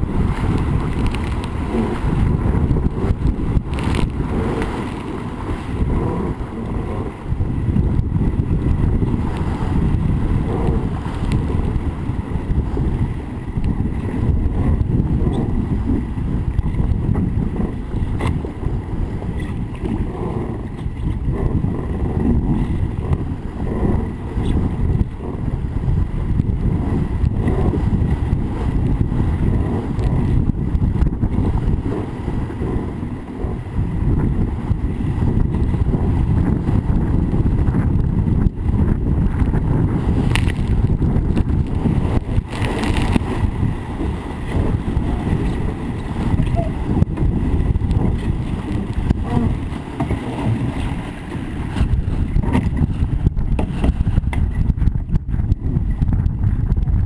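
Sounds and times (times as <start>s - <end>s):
water splashing along hull: 0.0s - 57.0s
wind buffeting microphone: 0.0s - 57.0s.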